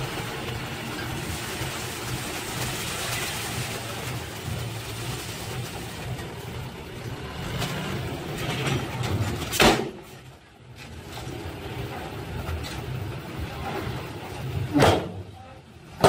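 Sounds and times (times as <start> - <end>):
soil unloading: 0.0 - 15.2
diesel truck engines running: 0.0 - 16.0.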